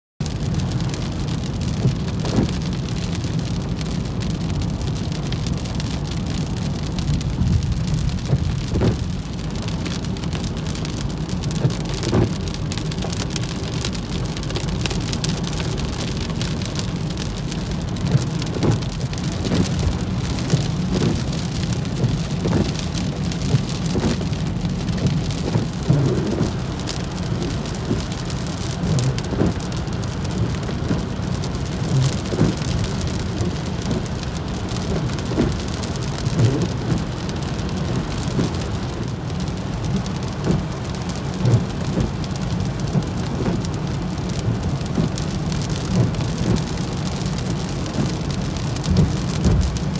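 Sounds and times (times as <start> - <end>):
rain hitting car windshield: 0.2 - 49.9
tyres rumbling on wet road: 0.2 - 49.9.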